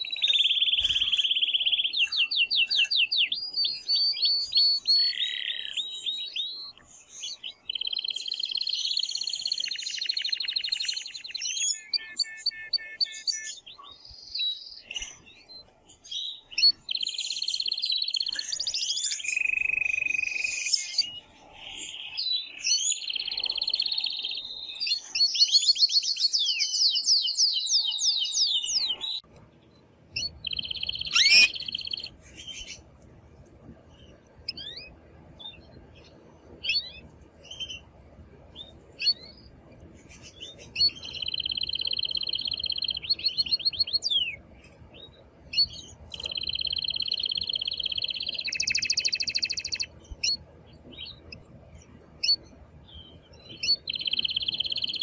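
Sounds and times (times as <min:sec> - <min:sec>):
canary singing trills: 0:00.0 - 0:29.3, 0:30.1 - 0:32.9, 0:34.4 - 0:37.9, 0:38.5 - 0:55.0.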